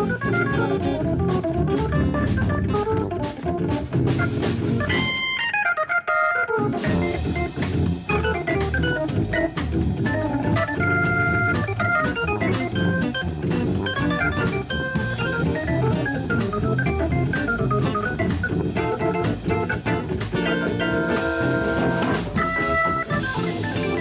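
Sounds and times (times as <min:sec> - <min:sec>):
drum kit beat with cymbals: 0:00.0 - 0:05.4, 0:06.8 - 0:24.0
guitar playing: 0:00.0 - 0:24.0
organ playing jazz: 0:00.0 - 0:24.0.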